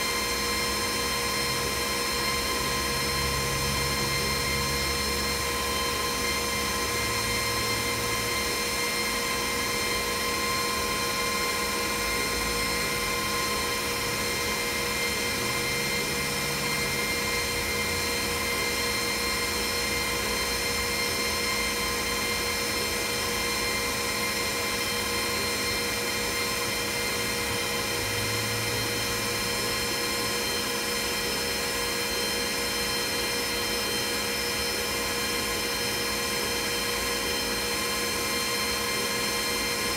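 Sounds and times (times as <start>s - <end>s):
laser engraver whirring: 0.0s - 39.9s.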